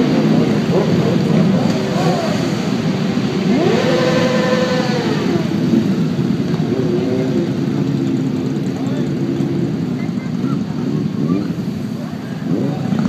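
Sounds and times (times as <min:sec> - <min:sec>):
motorcycle engine revving: 0:00.0 - 0:13.0
motorcycle engines running: 0:00.0 - 0:13.0.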